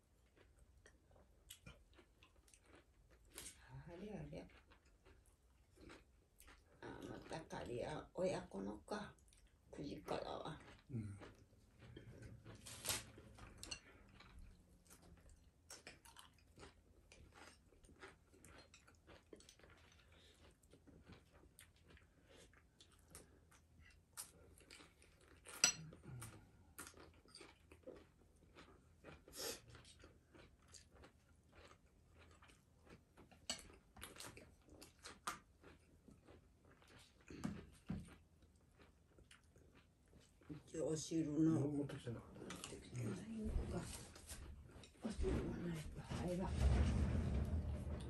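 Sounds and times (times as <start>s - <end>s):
people chewing: 0.0s - 3.7s, 4.4s - 7.5s, 9.1s - 45.5s.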